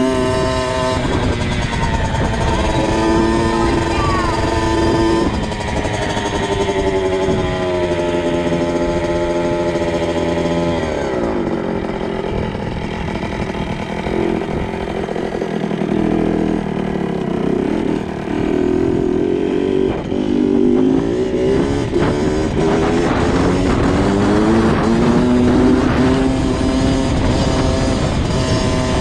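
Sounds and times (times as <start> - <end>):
two-stroke dirt bike engine revving: 0.0 - 29.0.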